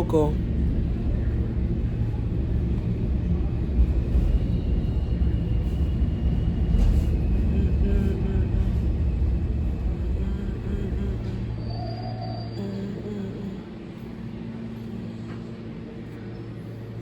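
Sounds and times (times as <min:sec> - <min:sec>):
low rumble of subway station: 0:00.0 - 0:17.0.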